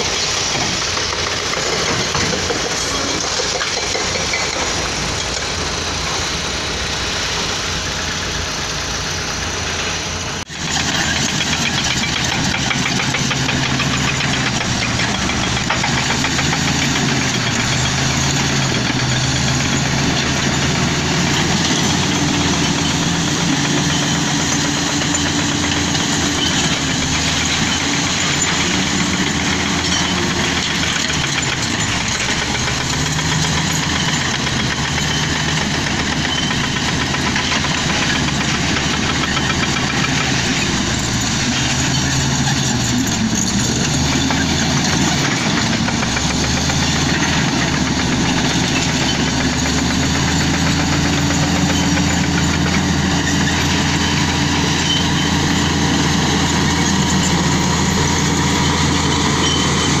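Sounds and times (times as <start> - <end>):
heavy diesel engines running: 0.0 - 60.0.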